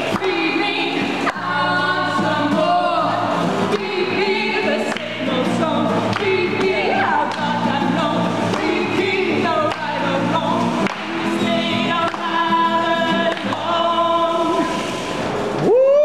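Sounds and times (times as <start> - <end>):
voices singing together: 0.0 - 15.1
acoustic guitar: 0.0 - 16.0.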